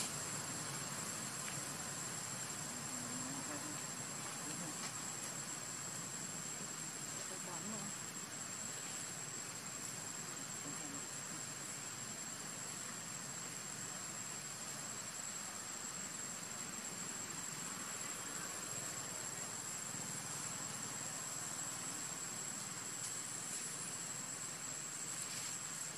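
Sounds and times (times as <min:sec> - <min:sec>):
even hiss: 0:00.0 - 0:25.9
high-pitched insect drone: 0:00.0 - 0:25.9.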